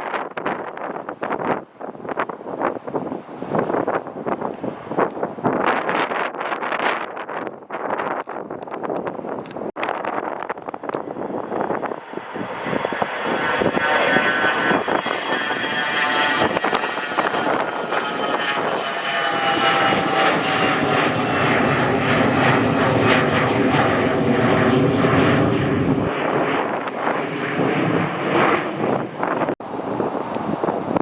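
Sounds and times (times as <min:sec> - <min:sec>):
airliner engines passing with whine: 0:00.0 - 0:31.0.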